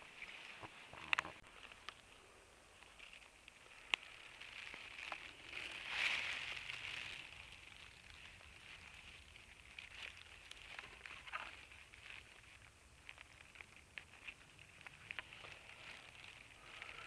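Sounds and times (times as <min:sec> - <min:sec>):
twigs and grass rustling: 0:00.0 - 0:17.0.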